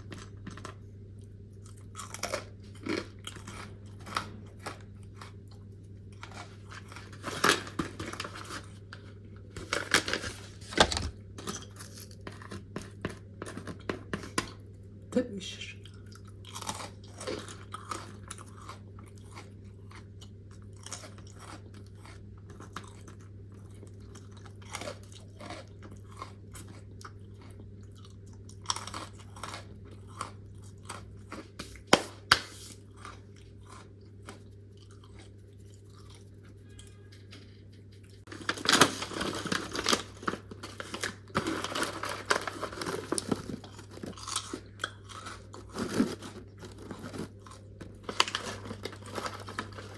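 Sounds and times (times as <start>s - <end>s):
chewing crunchy fruit: 0.0s - 9.1s, 15.8s - 38.3s, 39.7s - 49.9s
steady low hum: 0.0s - 49.9s.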